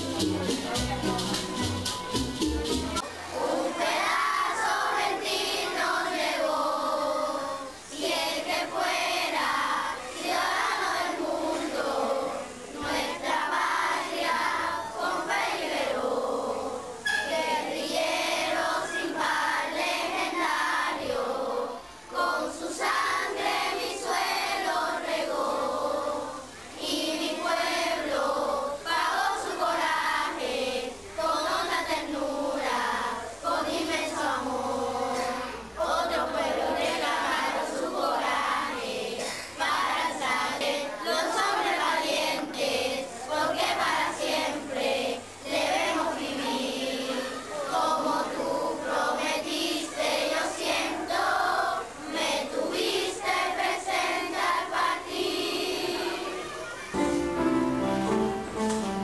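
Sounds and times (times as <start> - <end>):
children singing together: 2.9 - 59.0.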